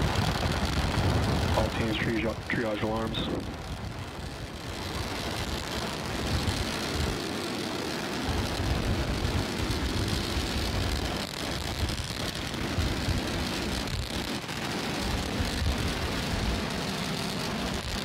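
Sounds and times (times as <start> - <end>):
rocket engines firing: 0.0 - 18.0.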